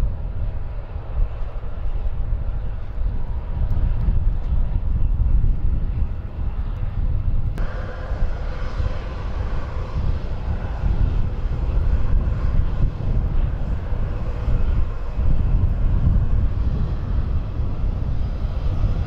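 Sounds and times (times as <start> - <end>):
faint engine whine: 0.0 - 19.0
jet engines rumbling: 0.0 - 19.0.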